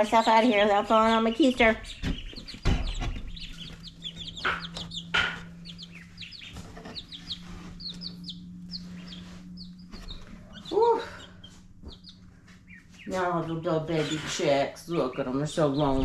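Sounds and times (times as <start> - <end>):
baby chicks peeping: 0.0 - 16.0
faint steady hum: 0.0 - 16.0.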